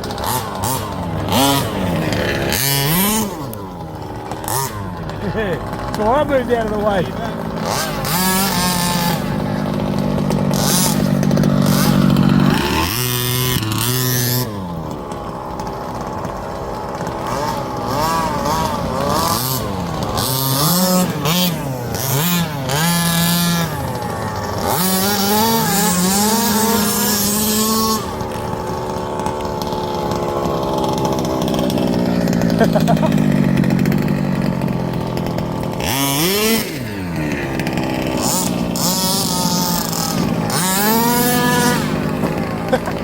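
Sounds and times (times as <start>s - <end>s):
small two-stroke engines revving: 0.0s - 43.0s.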